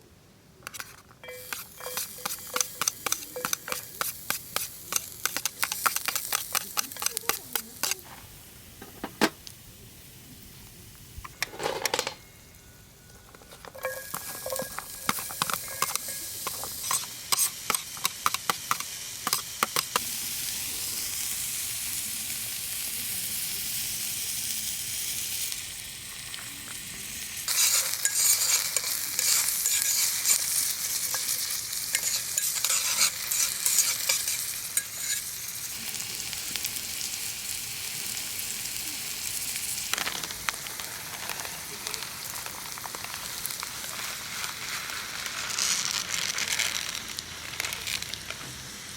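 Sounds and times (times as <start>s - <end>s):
food sizzling in a hot pan: 1.3s - 11.2s, 13.8s - 48.9s.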